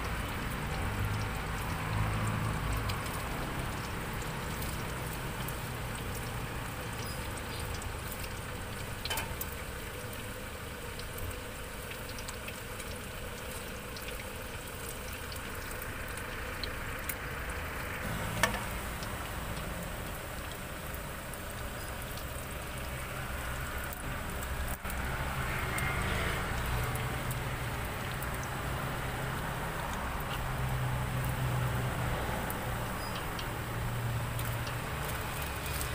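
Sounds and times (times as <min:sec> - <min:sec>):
hot oil bubbling and sizzling: 0:00.0 - 0:35.9.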